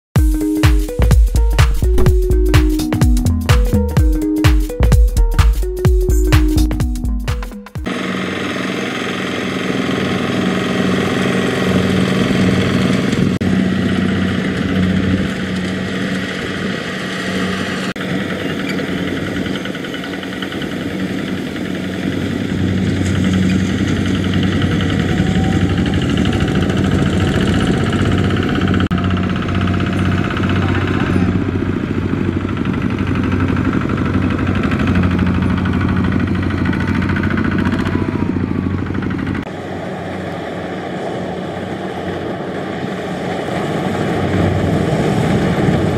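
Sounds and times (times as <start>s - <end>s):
diesel engine running steadily: 7.8s - 45.9s.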